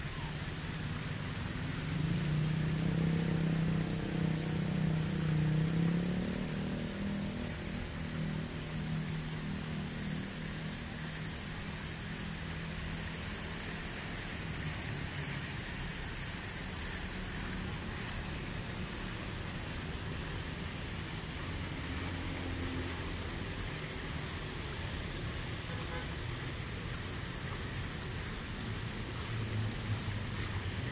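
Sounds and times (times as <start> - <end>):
fountain water splashing: 0.0 - 30.9.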